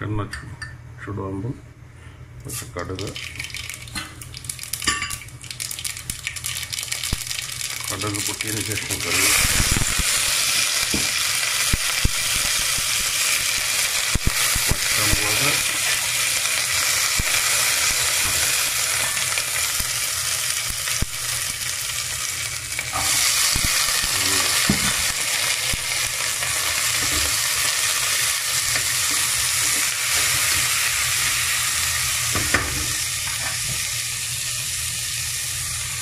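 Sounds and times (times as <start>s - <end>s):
oil sizzling in a pan: 3.0s - 36.0s.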